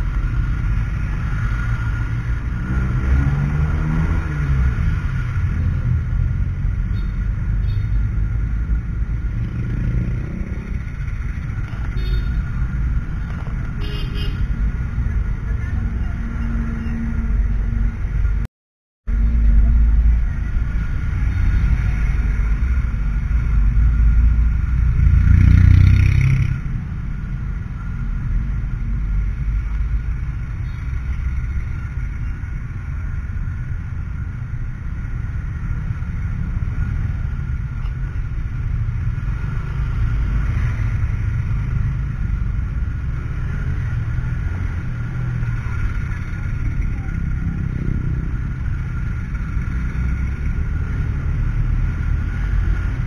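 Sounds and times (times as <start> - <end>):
motorcycle engine rumbling: 4.4 - 18.4, 19.1 - 53.0.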